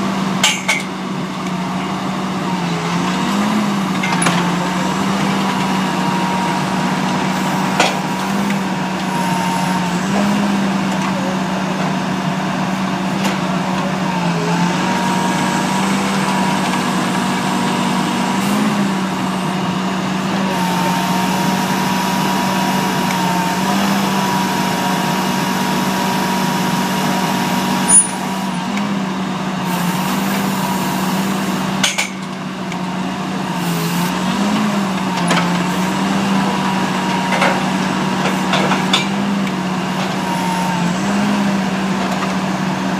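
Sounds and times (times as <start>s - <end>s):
drilling rig engine and hydraulics: 0.0s - 42.9s.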